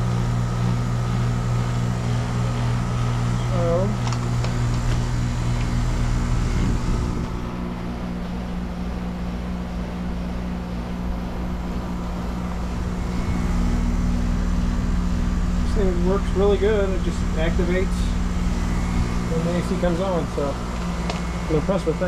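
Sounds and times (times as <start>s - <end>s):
air conditioner unit humming: 0.0s - 22.0s.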